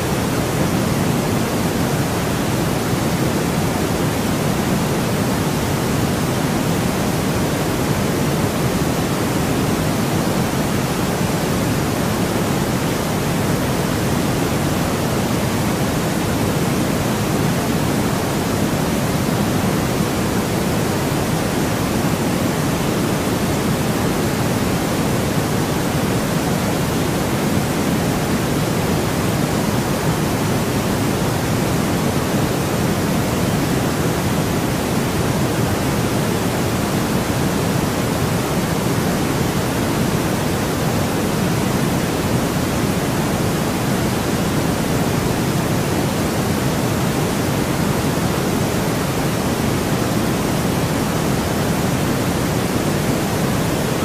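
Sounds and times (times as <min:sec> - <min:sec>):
low-weighted synthetic noise hiss: 0:00.0 - 0:54.0.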